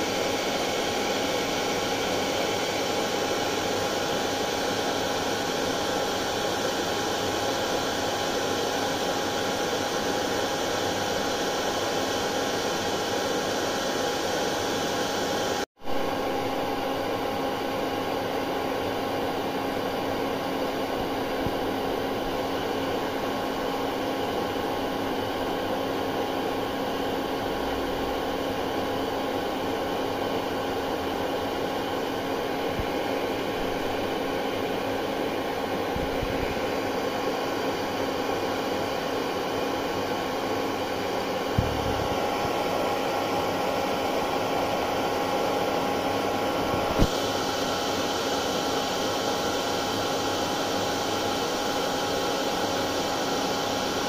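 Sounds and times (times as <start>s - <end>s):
hair dryer running: 0.0s - 15.6s, 16.6s - 54.0s.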